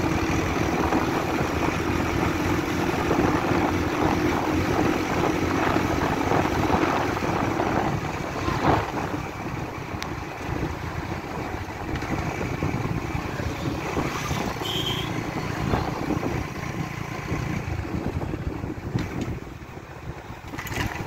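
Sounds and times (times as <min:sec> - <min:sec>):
motorcycle engine running: 0:00.0 - 0:21.0
wind rush on microphone: 0:00.0 - 0:21.0.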